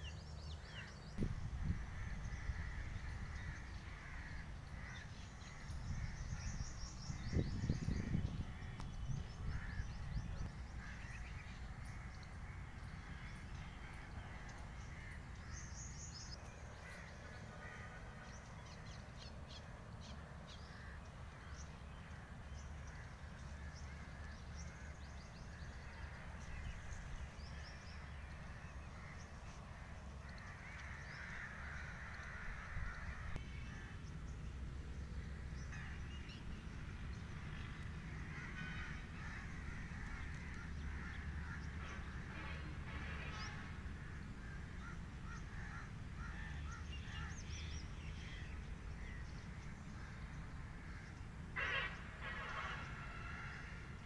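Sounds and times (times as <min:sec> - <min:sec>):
birds calling: 0:00.0 - 0:54.0.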